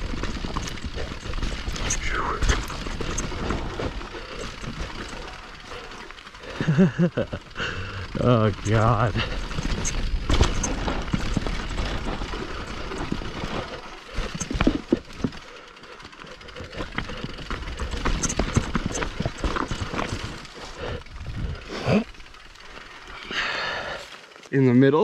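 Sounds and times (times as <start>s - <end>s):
mountain bike rattling and clattering: 0.0s - 25.0s.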